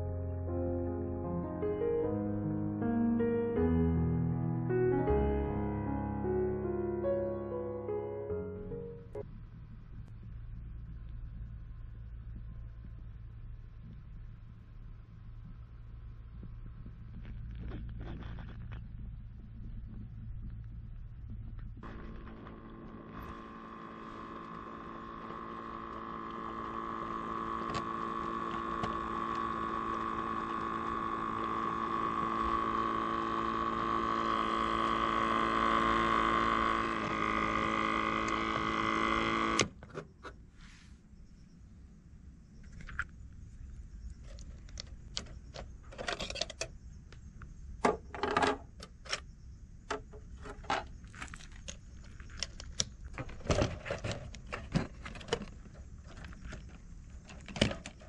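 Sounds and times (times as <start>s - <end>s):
electric hum with high tone: 0.0s - 58.0s.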